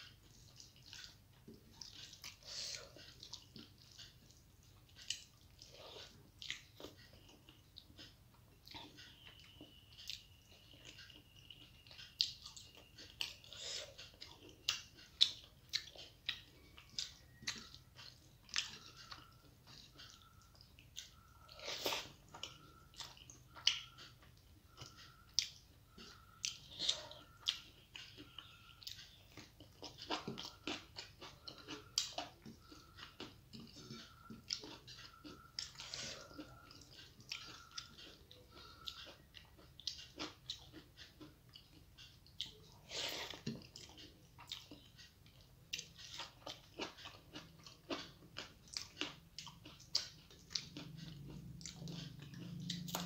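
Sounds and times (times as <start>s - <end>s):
chewing and mouth smacks: 0.0s - 53.0s.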